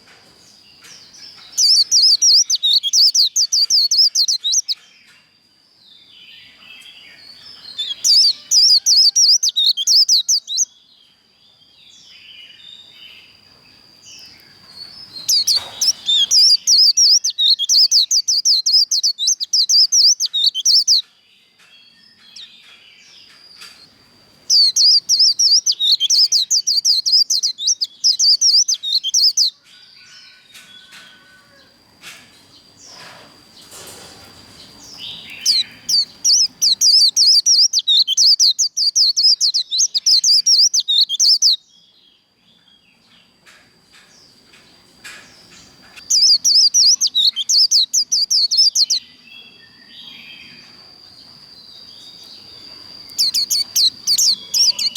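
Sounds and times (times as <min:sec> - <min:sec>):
bird twittering song: 0:00.5 - 0:31.8, 0:32.4 - 0:54.9.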